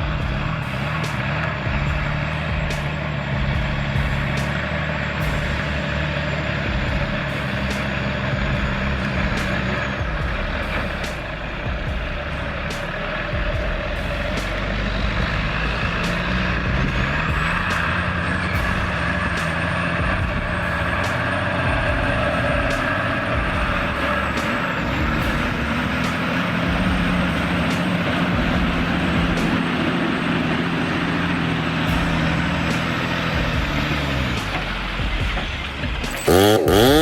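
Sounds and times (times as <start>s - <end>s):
diesel machinery engine drone: 0.0s - 37.0s.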